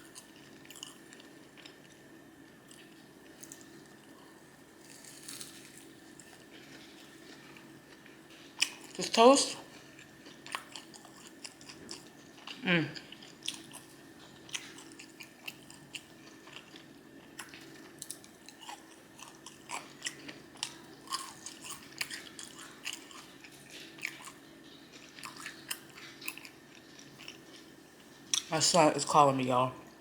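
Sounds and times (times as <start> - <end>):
chewing and biting toast: 0.0 - 9.0, 9.7 - 28.5.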